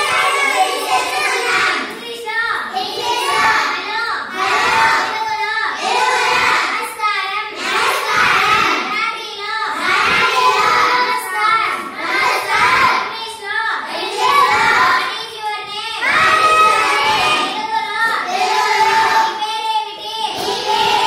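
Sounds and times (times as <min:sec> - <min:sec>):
child chanting: 0:00.0 - 0:21.0.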